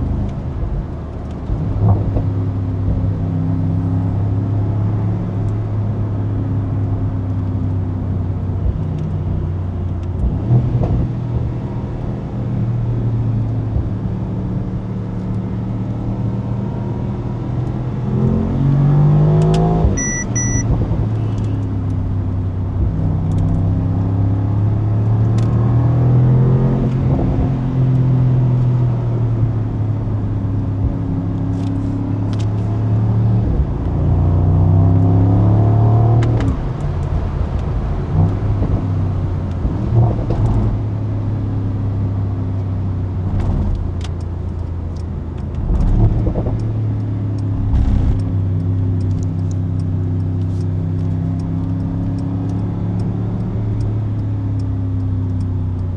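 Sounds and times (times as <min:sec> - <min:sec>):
car engine revving on the move: 0:00.0 - 0:55.9.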